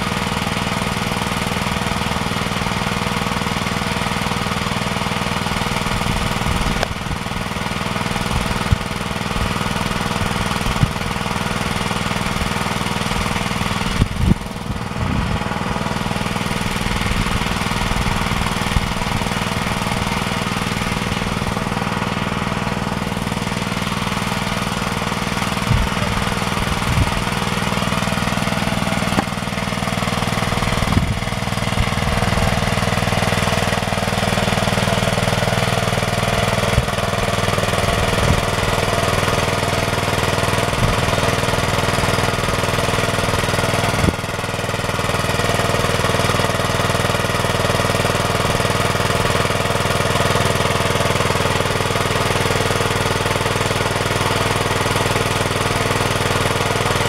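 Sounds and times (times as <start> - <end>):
small engine idling with knocking: 0.0 - 57.0.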